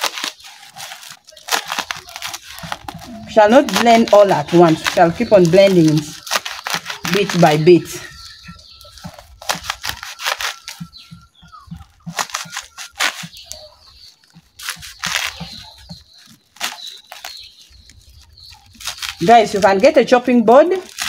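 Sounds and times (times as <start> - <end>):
knife chopping leaves: 0.0 - 21.0.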